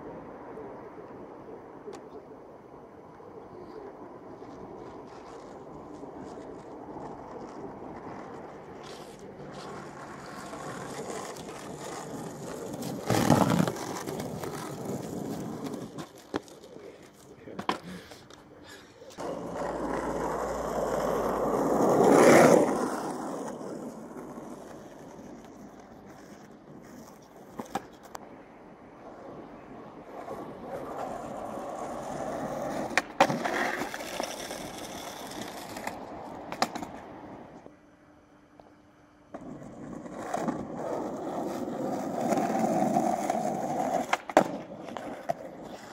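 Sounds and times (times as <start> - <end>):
skateboard wheels rolling on asphalt: 0.0 - 45.9
skateboard clacks: 4.4 - 18.5, 19.2 - 28.2, 30.1 - 37.7, 39.3 - 45.9.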